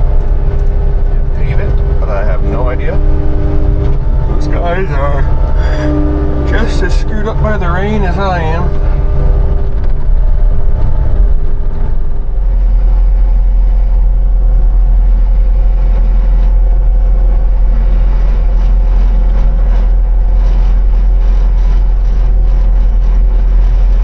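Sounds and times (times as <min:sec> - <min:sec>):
engine droning: 0:00.0 - 0:24.0.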